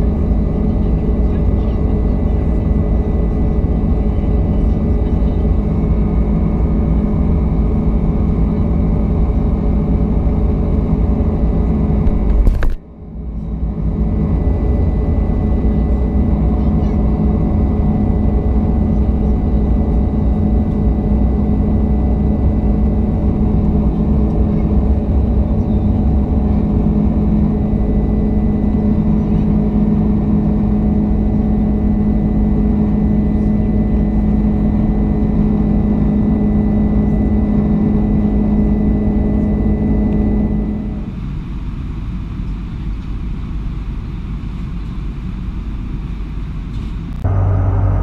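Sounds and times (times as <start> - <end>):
jet engine drone in cabin: 0.0 - 48.0.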